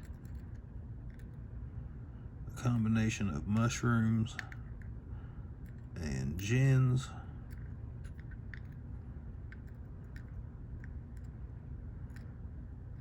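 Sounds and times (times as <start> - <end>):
light clicks of small metal parts: 0.0 - 1.4, 2.6 - 5.0, 5.6 - 11.4, 12.0 - 13.0
low hum: 0.0 - 13.0.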